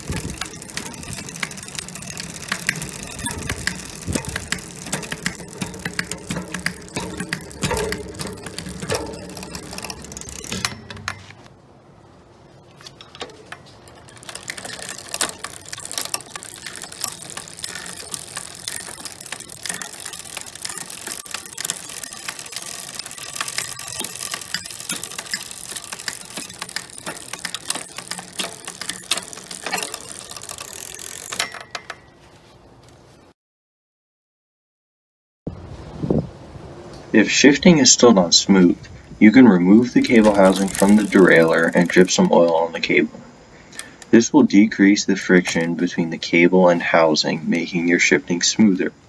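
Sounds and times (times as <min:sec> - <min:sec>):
bicycle chain ratcheting clicks: 0:00.0 - 0:11.5, 0:12.8 - 0:32.2, 0:38.6 - 0:49.0.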